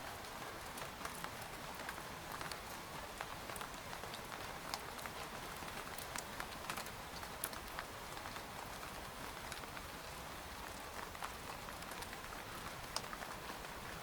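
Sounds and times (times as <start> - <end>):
rain on a tent: 0.0 - 14.0.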